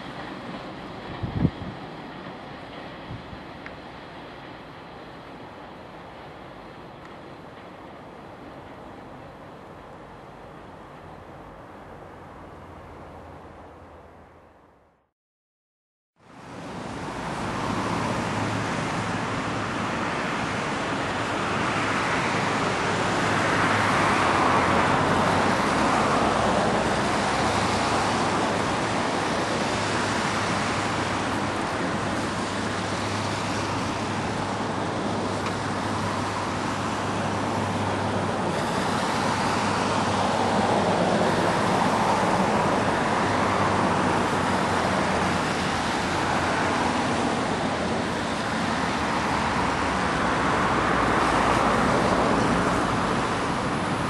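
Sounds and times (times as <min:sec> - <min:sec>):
train wheels rumbling on rail: 0:00.0 - 0:14.0, 0:16.3 - 0:54.0.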